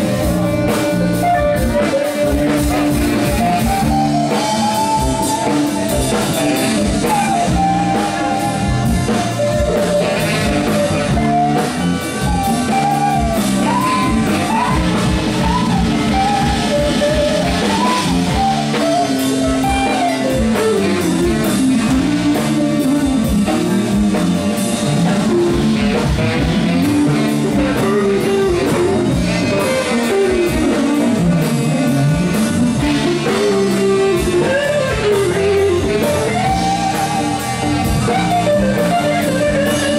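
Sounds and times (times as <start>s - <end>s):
drum kit: 0.0s - 39.9s
electric guitar: 0.0s - 39.9s
sliding lead melody: 0.0s - 39.9s.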